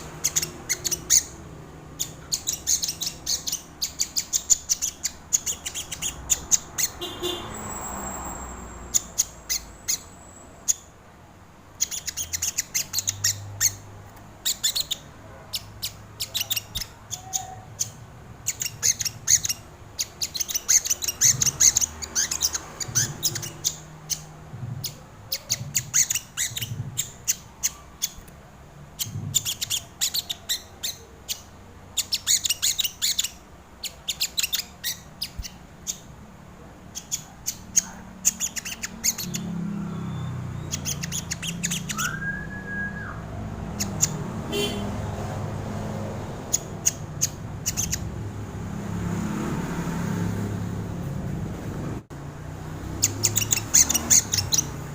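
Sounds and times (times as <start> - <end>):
bird chips and trills: 0.0 - 10.9, 11.8 - 13.8, 14.4 - 28.2, 29.0 - 36.1, 36.9 - 45.2, 46.4 - 48.1, 53.0 - 54.9.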